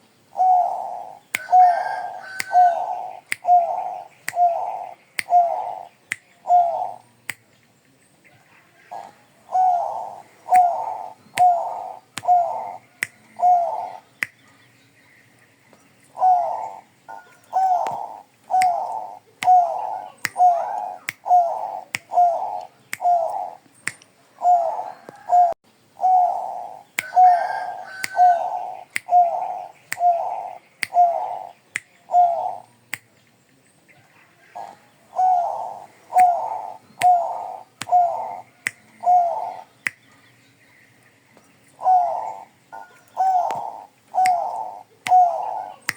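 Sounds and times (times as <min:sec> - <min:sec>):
dove cooing: 0:00.4 - 0:07.0, 0:08.8 - 0:14.1, 0:16.1 - 0:23.6, 0:24.4 - 0:32.6, 0:34.4 - 0:39.7, 0:41.8 - 0:45.9.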